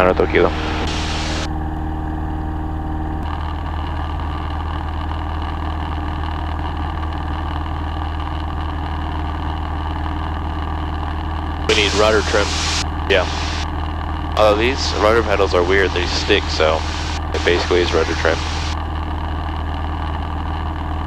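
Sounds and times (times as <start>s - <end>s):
airplane engine and propeller droning: 0.0s - 21.0s
faint hum: 0.0s - 21.0s.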